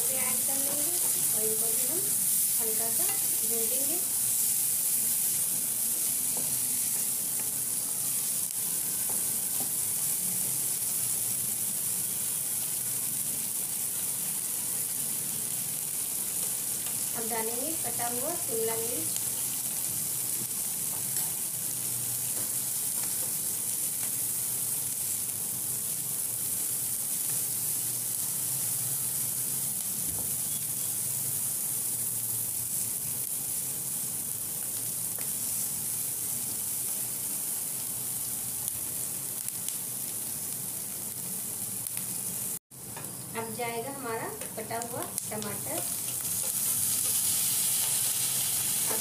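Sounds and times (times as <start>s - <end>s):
vegetables sizzling in a pan: 0.0s - 49.0s.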